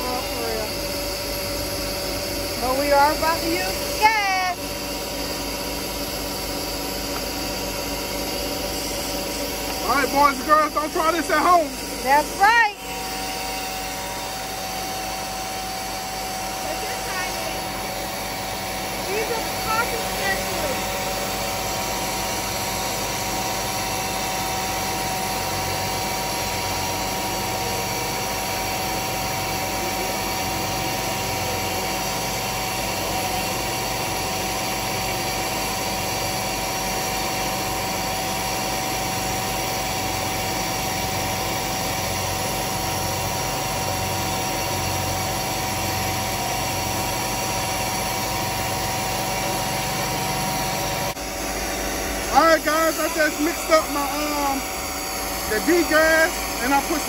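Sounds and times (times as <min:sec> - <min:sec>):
carpet cleaning machine humming: 0:00.0 - 0:57.0.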